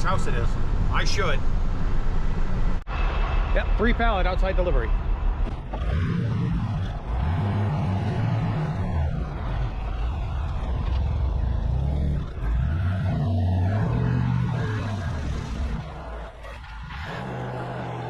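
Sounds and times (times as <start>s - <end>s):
road noise: 0.0s - 18.0s
truck engine running: 0.0s - 18.0s.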